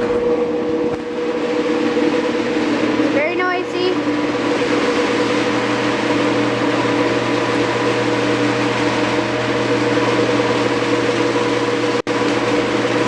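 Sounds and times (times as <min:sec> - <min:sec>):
garage door opener whirring: 0:00.0 - 0:13.0.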